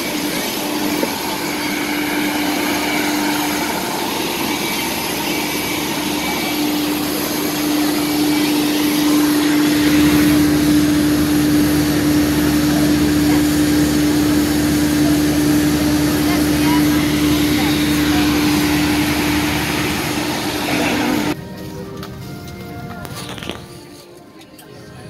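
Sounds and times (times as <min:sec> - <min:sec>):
deeper hum: 0:00.0 - 0:21.4
humming whine of machinery: 0:00.0 - 0:23.5.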